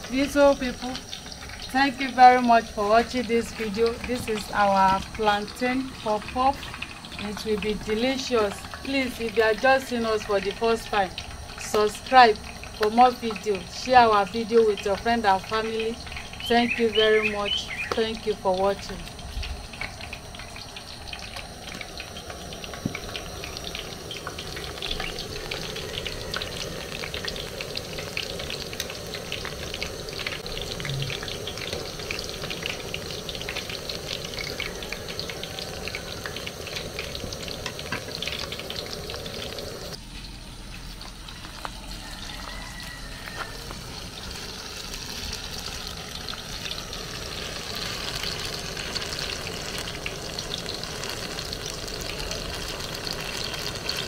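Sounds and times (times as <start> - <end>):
dough sizzling in hot oil: 0.0 - 54.0.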